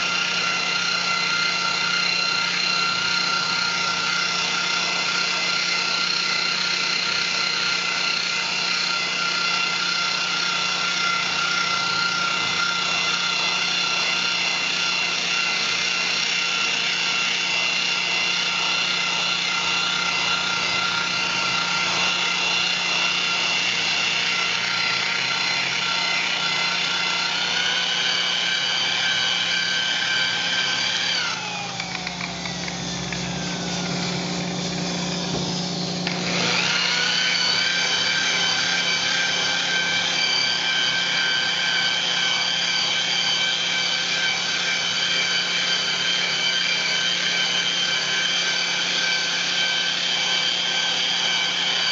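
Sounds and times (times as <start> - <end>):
electric polisher motor whine: 0.0 - 51.9.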